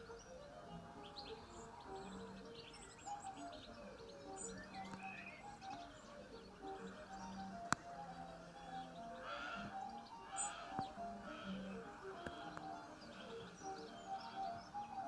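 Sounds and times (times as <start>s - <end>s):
birds chirping and singing: 0.0s - 15.0s
quiet instrumental music: 0.0s - 15.0s.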